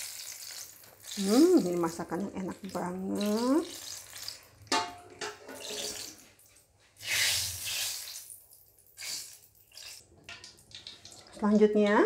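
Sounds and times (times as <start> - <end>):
oil dripping and splashing in a wok: 0.0 - 11.7.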